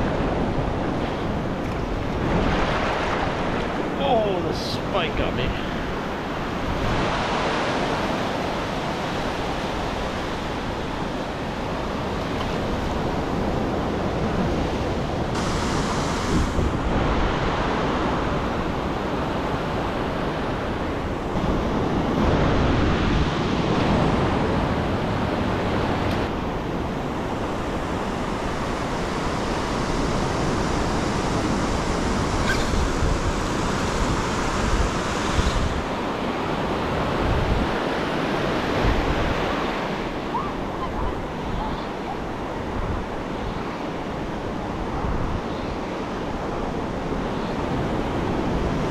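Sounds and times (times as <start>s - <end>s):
surf washing up a beach: 0.0s - 48.9s.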